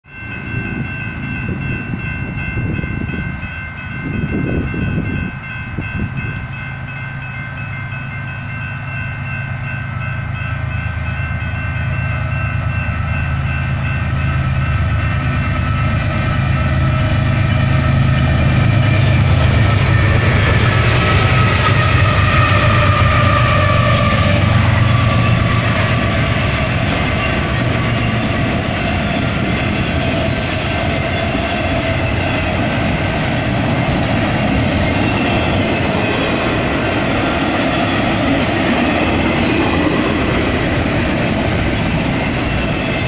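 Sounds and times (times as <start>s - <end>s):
crossing warning bells ringing: 0.0s - 43.0s
diesel locomotive rumble: 0.1s - 43.0s.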